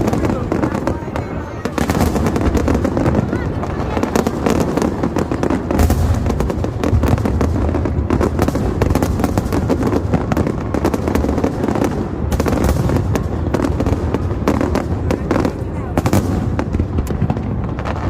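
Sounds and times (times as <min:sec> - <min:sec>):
fireworks bangs and crackles: 0:00.0 - 0:18.0
heavy firework booms: 0:00.0 - 0:18.0.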